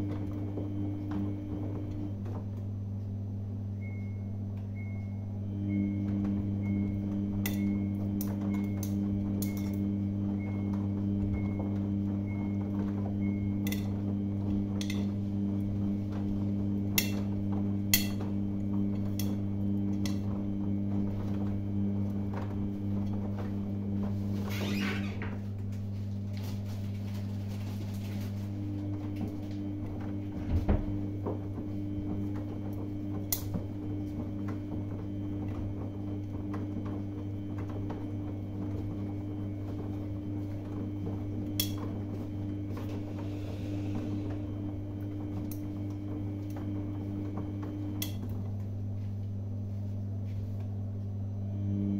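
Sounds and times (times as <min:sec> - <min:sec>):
washing machine motor hum: 0:00.0 - 0:51.9.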